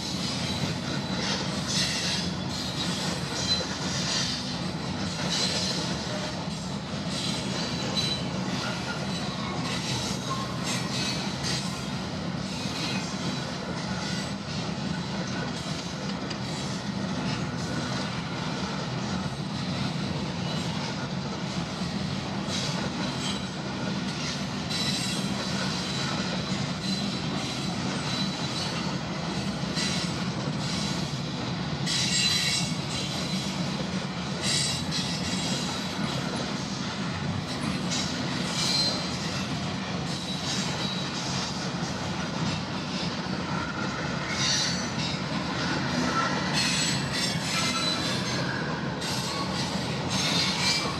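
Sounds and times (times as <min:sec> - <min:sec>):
train cars rumbling: 0:00.0 - 0:50.9
wheels squealing on rails: 0:00.0 - 0:50.9.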